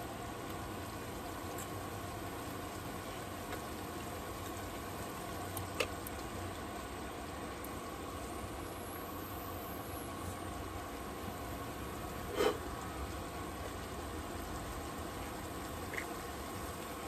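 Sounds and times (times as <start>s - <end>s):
food sizzling and bubbling in pot: 0.0s - 17.0s.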